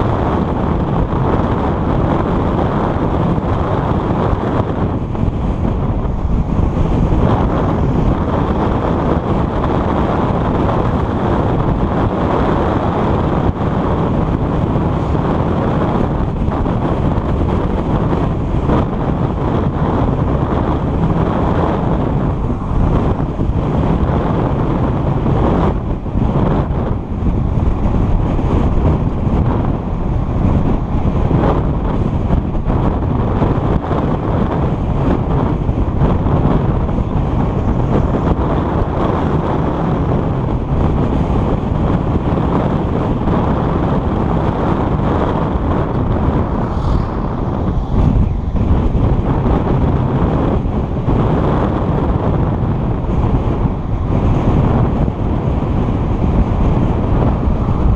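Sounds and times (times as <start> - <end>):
tyre and road noise: 0.0 - 57.9
wind on microphone: 0.0 - 57.9.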